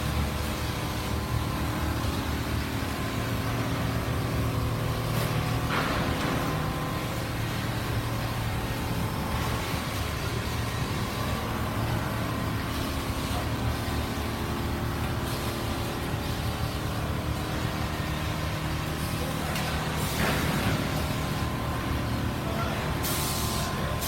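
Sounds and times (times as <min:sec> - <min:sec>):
quilting machines humming: 0:00.0 - 0:24.0.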